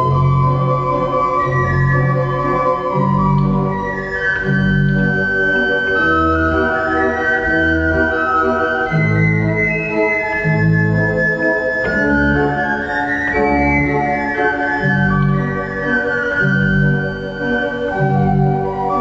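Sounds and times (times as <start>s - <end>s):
slow gentle organ music: 0.0s - 19.0s.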